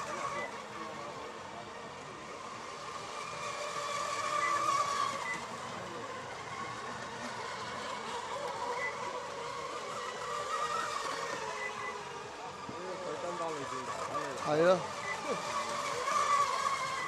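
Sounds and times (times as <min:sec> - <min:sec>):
electric boat motor whine: 0:00.0 - 0:17.0.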